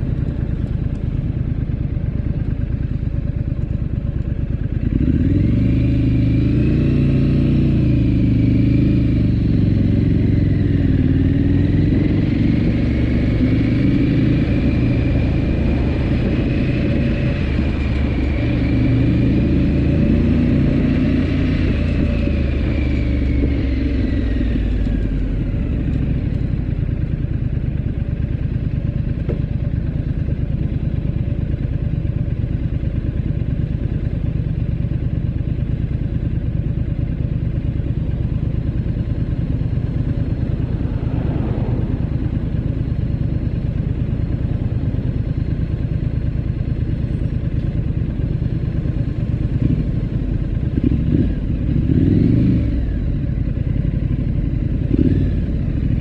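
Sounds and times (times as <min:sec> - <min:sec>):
motorcycle engine at low revs: 0:00.0 - 0:56.0.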